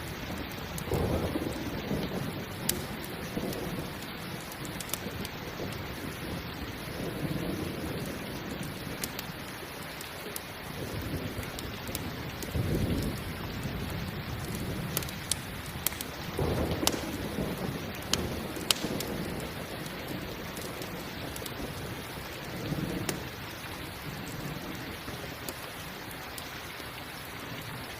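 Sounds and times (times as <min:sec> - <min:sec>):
thunder rumbling: 0:00.0 - 0:09.8, 0:10.6 - 0:26.1
campfire crackling: 0:00.0 - 0:27.9
steady rain: 0:00.0 - 0:27.9.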